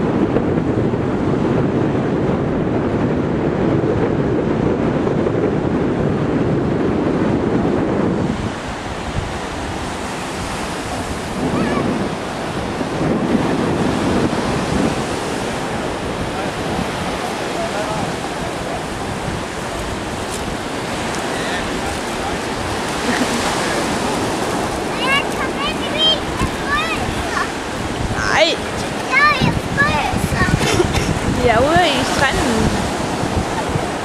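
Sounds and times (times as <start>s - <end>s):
breaking surf: 0.0s - 34.0s
wind buffeting microphone: 0.0s - 34.0s.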